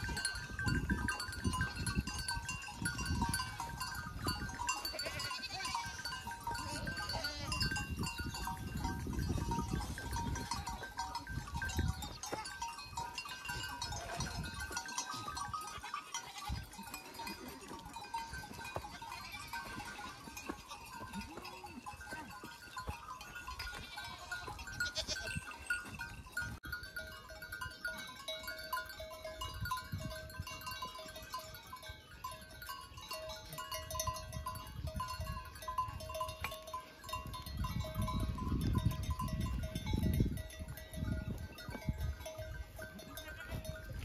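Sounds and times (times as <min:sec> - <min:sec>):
goats and sheep bleating: 0:00.0 - 0:40.8, 0:41.6 - 0:44.0.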